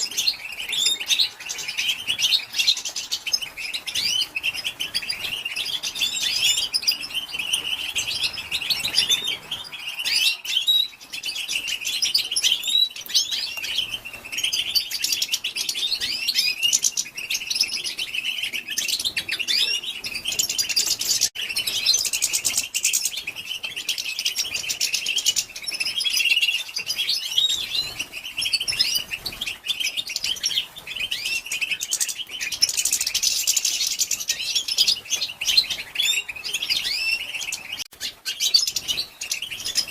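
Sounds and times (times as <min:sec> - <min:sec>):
goldfinches twittering chirps: 0:00.0 - 0:39.9.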